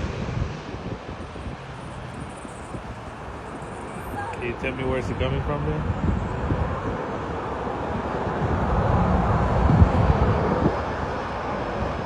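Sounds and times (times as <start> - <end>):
jet engines landing: 0.0 - 12.0.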